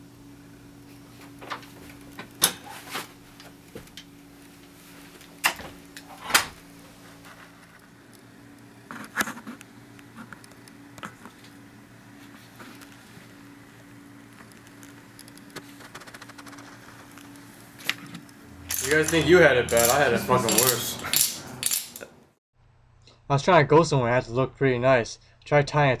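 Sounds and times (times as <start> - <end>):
steady low hum: 0.0 - 25.6.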